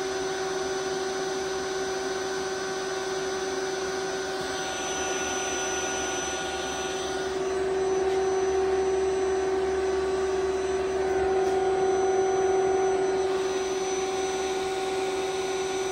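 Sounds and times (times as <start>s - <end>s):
constant electrical whine: 0.0s - 15.9s.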